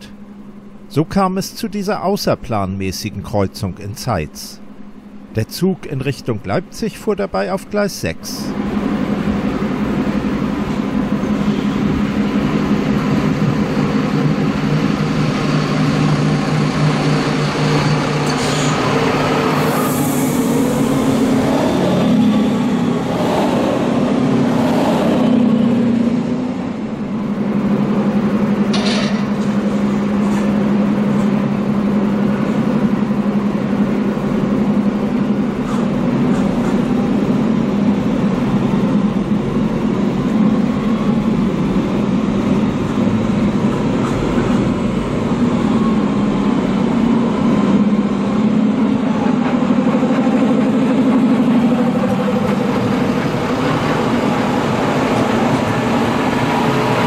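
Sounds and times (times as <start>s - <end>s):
railcar diesel engines humming: 0.0s - 57.0s.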